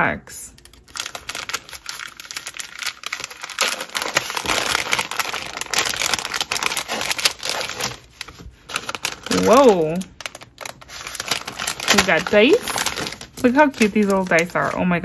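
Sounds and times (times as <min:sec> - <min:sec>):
plastic pouch crinkling: 0:00.6 - 0:15.0.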